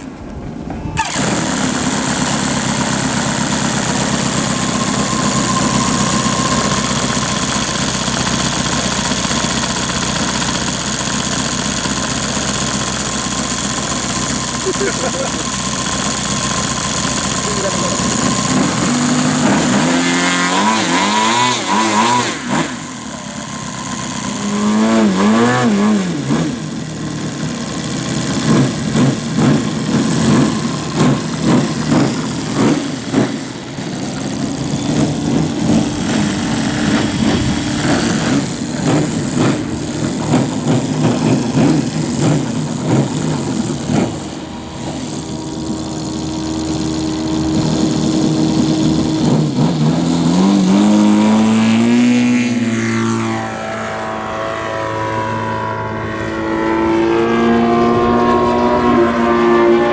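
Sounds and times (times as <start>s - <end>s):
model plane engine revving: 0.8s - 59.9s.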